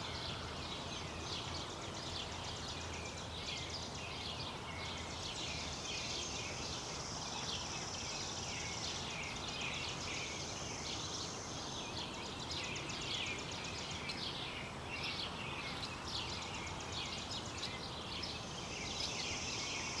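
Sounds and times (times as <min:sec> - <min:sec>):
insects chirping: 0:00.0 - 0:14.5, 0:15.2 - 0:20.0
birds chirping and trilling: 0:00.0 - 0:20.0
faint steady hiss: 0:00.0 - 0:20.0.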